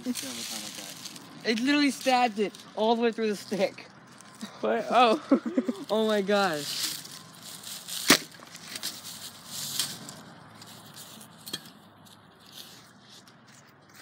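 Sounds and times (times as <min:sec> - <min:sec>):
rustling in dry grass and leaves: 0:00.0 - 0:14.0.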